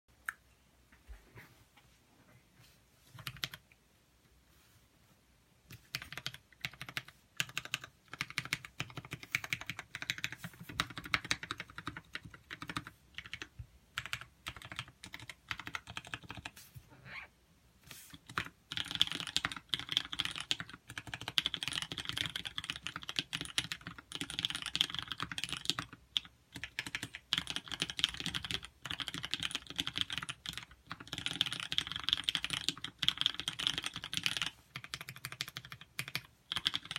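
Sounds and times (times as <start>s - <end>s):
mechanical keyboard typing: 3.2s - 3.6s, 5.7s - 16.5s, 18.1s - 36.9s.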